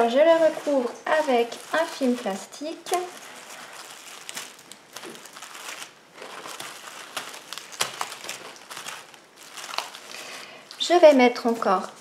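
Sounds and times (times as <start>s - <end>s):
cling film crinkling: 0.0s - 12.0s.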